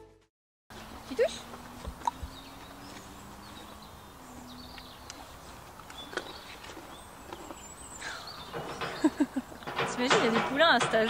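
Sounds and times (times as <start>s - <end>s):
bird chirps: 0.8s - 9.8s.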